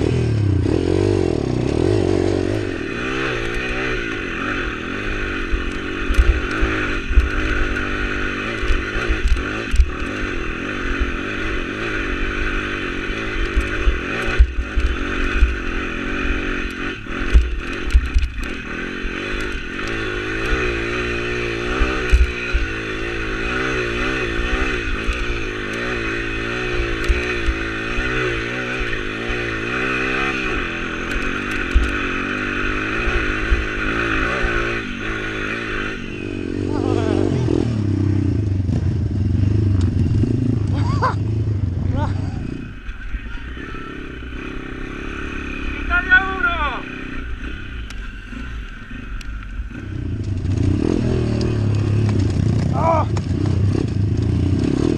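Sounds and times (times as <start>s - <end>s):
pit bike engine under load: 0.0s - 54.9s.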